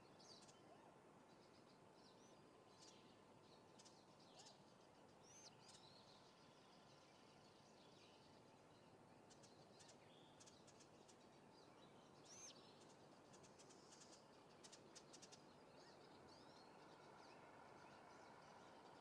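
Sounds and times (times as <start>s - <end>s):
faint high bird chirps: 0.0s - 19.0s.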